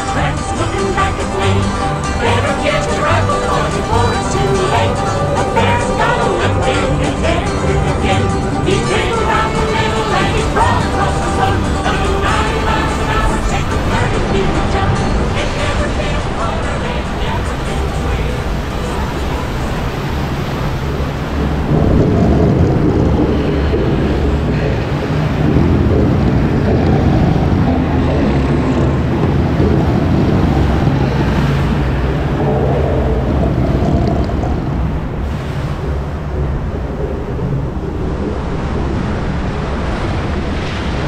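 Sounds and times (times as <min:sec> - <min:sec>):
rushing splashing water: 0:00.0 - 0:41.0
wind buffeting microphone: 0:00.0 - 0:41.0.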